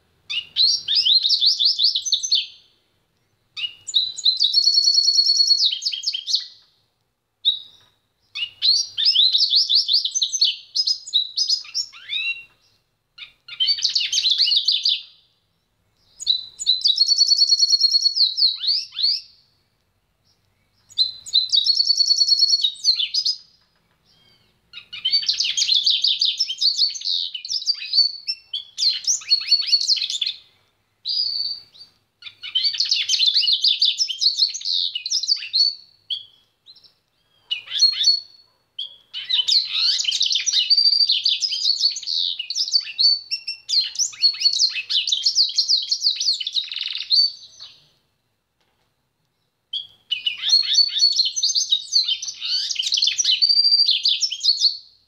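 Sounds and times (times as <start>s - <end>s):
bird twittering song: 0.3s - 6.8s, 7.4s - 48.0s, 49.4s - 55.0s.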